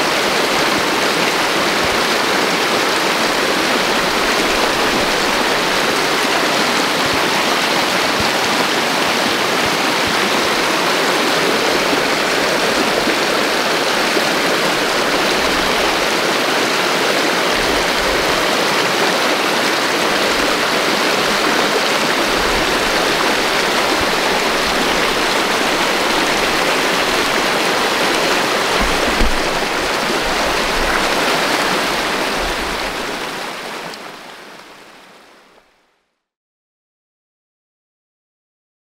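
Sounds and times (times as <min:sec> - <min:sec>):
creek rushing over rocks: 0:00.0 - 0:35.3.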